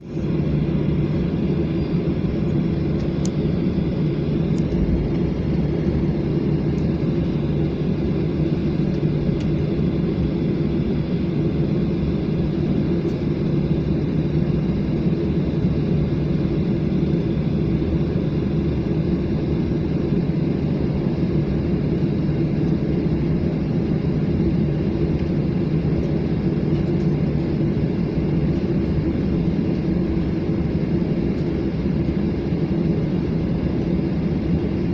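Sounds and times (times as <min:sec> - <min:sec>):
jet airliner low rumble: 0:00.0 - 0:34.9.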